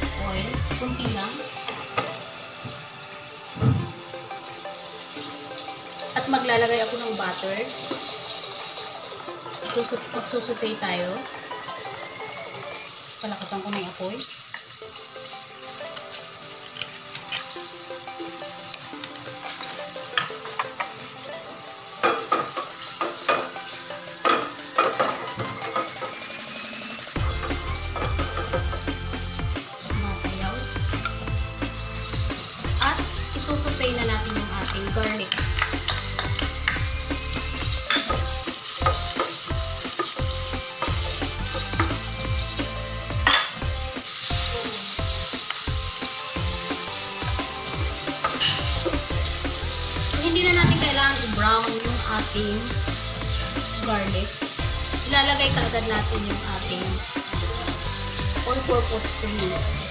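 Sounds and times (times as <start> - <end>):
butter sizzling in frying pan: 0.0 - 59.9.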